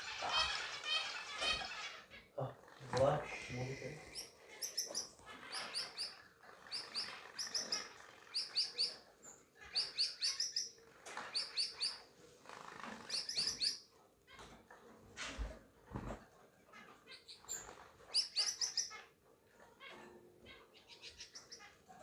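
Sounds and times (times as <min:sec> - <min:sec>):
small birds chirping: 0:00.0 - 0:14.4, 0:16.7 - 0:22.0.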